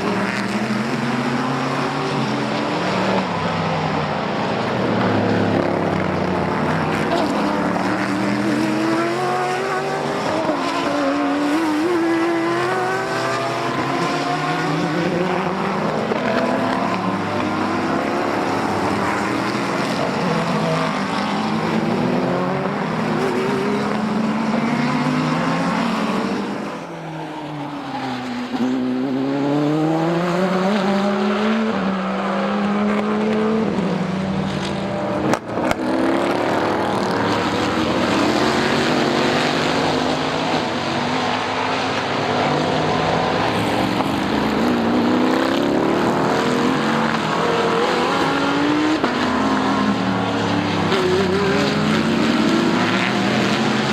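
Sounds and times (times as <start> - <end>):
race car engines: 0.0 - 53.9.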